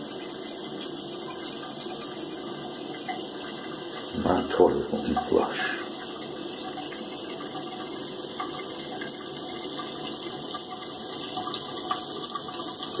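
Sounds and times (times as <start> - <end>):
faucet running water: 0.0 - 13.0.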